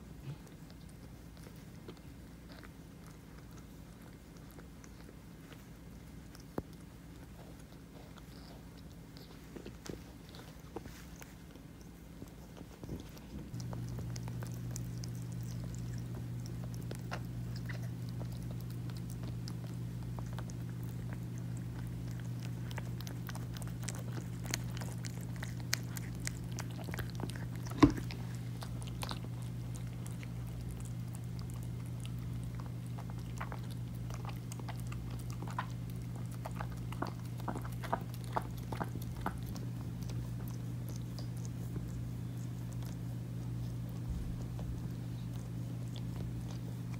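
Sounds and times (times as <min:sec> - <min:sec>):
cat licking and chewing: 0:00.0 - 0:46.9.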